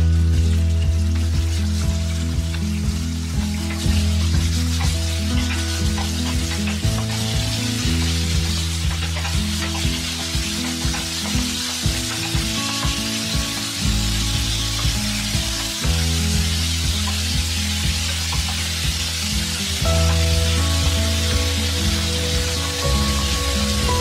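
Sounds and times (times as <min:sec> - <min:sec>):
background music: 0:00.0 - 0:24.0
meat sizzling in a frying pan: 0:00.0 - 0:24.0
spatula scraping a pan: 0:03.2 - 0:24.0.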